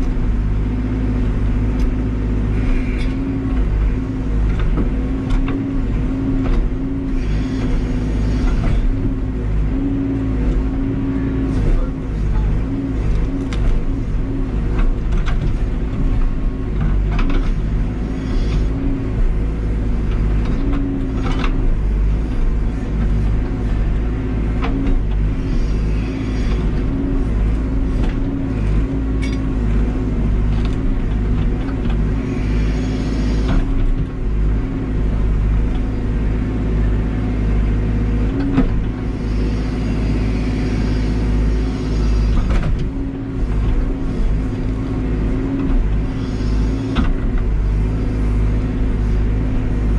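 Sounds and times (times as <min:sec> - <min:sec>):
diesel engine under load: 0:00.0 - 0:49.9.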